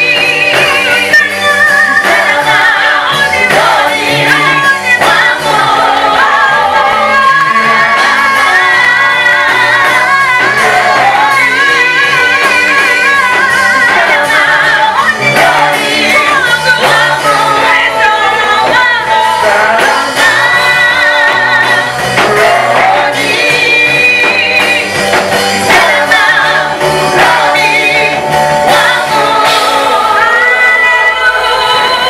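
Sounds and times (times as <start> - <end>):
group singing gospel music: 0.0 - 32.0.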